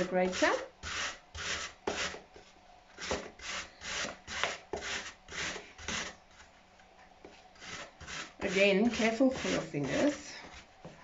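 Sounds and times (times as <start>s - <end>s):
apple grating on metal grater: 0.0s - 2.2s, 3.0s - 6.4s, 7.6s - 10.7s.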